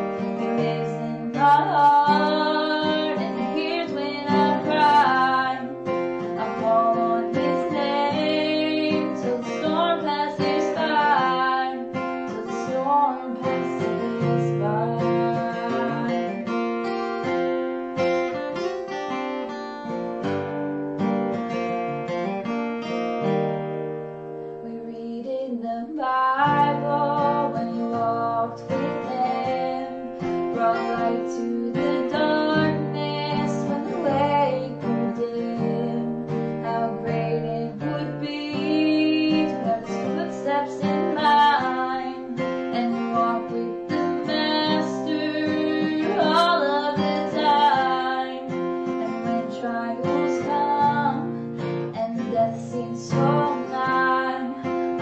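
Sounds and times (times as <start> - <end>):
woman singing: 0.0 - 17.4, 18.1 - 20.4, 24.6 - 55.0
strummed acoustic guitar: 0.0 - 55.0.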